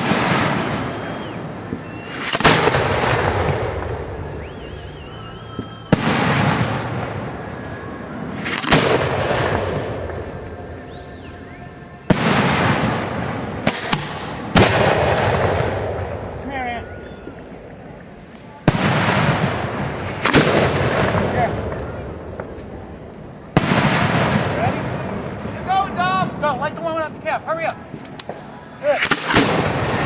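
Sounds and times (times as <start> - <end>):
fireworks bursting: 0.0 - 30.0
fireworks crackle and rumble: 0.0 - 30.0.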